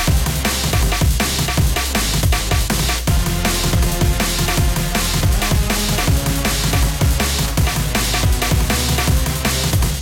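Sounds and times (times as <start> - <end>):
fast electronic music: 0.0 - 10.0.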